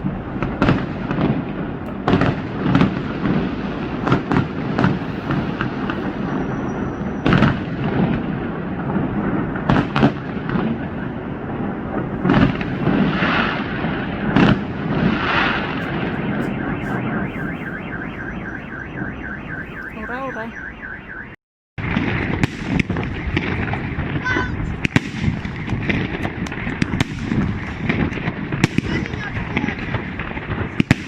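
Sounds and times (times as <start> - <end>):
firework bangs: 0.0 - 21.1, 21.8 - 31.0
echoing rumble: 0.0 - 31.0.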